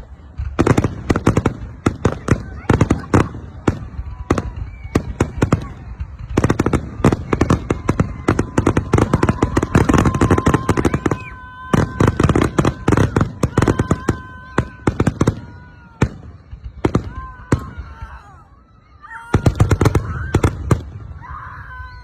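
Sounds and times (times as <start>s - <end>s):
fireworks crackling bangs: 0.0s - 18.5s, 19.1s - 21.3s
fireworks whistling: 0.1s - 22.0s.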